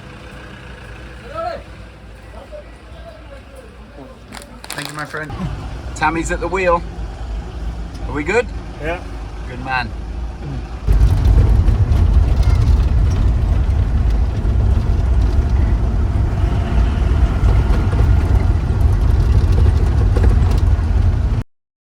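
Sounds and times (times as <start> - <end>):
vehicle engine and road noise: 0.0 - 21.5.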